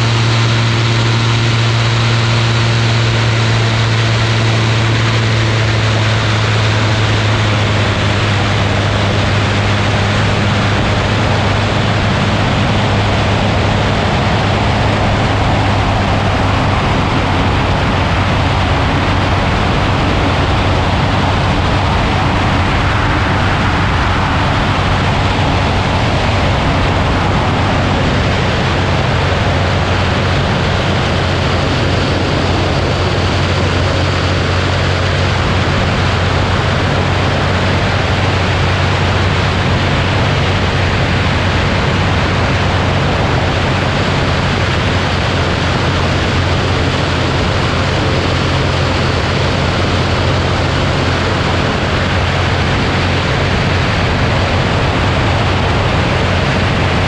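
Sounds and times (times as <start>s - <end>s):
rushing air noise: 0.0s - 57.0s
ultralight aircraft engine and propeller: 0.0s - 57.0s.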